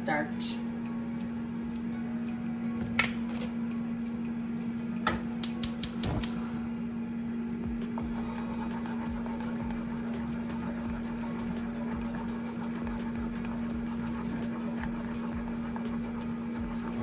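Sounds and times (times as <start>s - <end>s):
air fryer fan humming: 0.0s - 17.0s.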